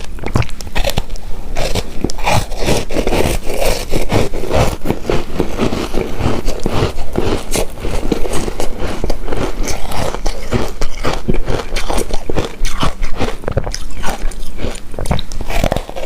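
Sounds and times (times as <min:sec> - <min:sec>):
close chewing mouth sounds: 0:00.0 - 0:16.0.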